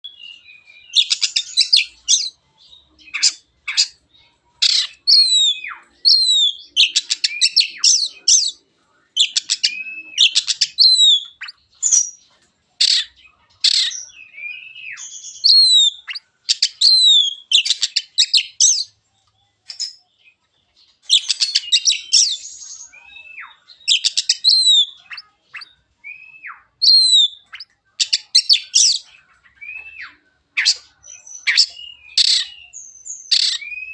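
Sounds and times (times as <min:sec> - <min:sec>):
magpie-robin singing: 0:00.0 - 0:19.0, 0:19.6 - 0:33.9.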